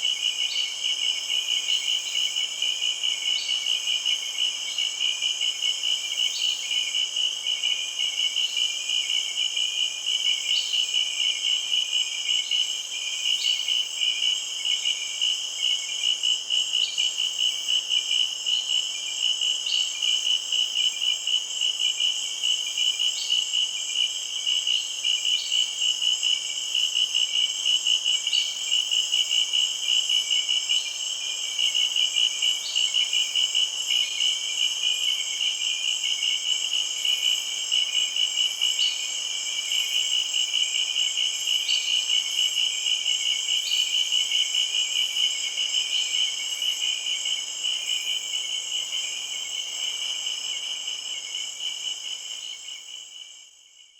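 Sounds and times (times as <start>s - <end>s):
high continuous insect buzz: 0.0s - 53.9s
insects chirping: 0.0s - 53.9s.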